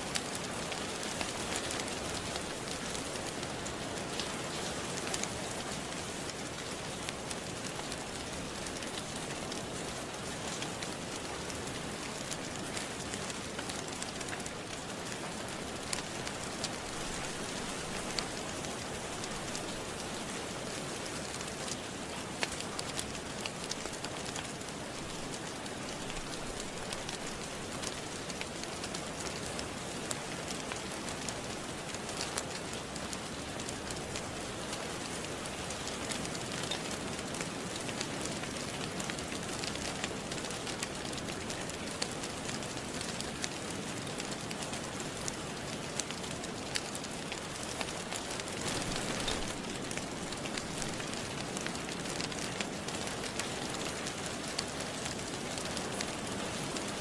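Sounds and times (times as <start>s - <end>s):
steady rain hissing: 0.0s - 57.0s
wood fire crackling and popping: 0.0s - 57.0s.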